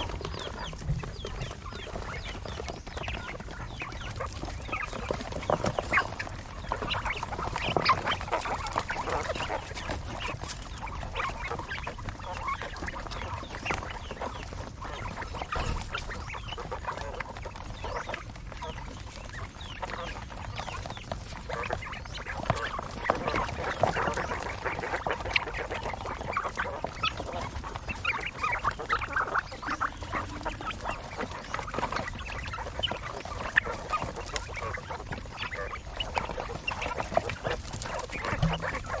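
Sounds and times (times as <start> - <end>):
quail calling and chirping: 0.0 - 39.0.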